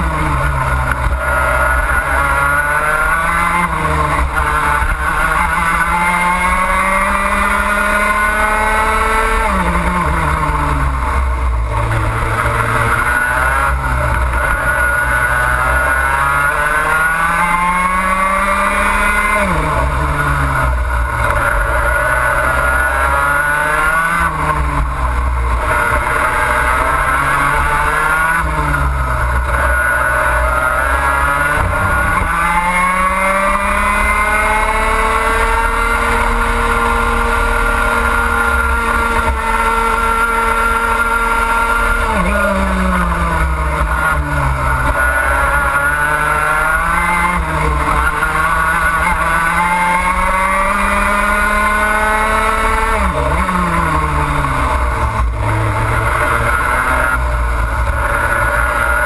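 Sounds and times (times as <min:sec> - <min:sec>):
kart engine at full throttle: 0:00.0 - 0:59.0.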